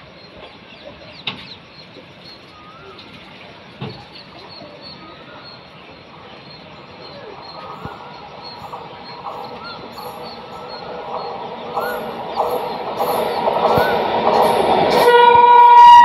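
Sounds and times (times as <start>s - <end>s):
train rumbling: 0.0s - 16.0s
bird chirps: 0.2s - 15.0s.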